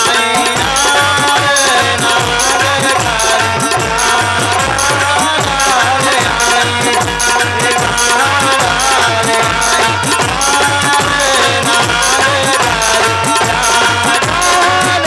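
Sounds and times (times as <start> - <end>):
hand drum beat: 0.0 - 15.0
high percussion accents: 0.0 - 15.0.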